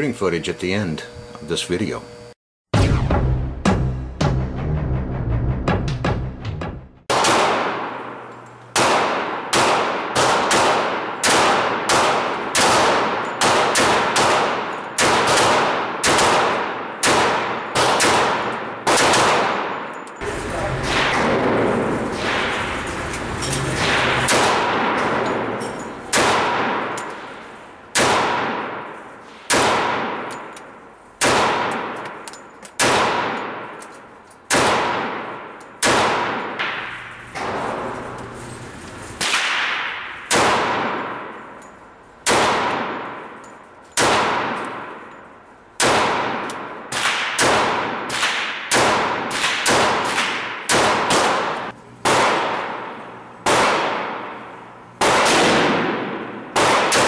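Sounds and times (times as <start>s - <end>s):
pistol shots echoing indoors: 7.0s - 38.4s, 39.1s - 57.0s.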